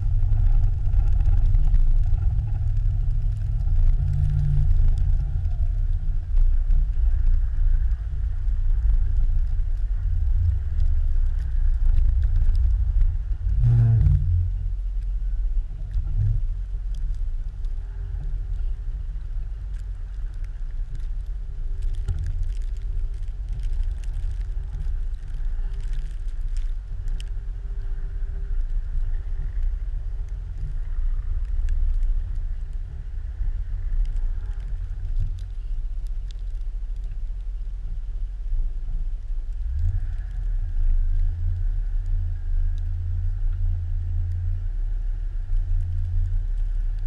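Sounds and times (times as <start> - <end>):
car engine rumbling: 0.0 - 47.0
faint steady tone: 0.0 - 47.0.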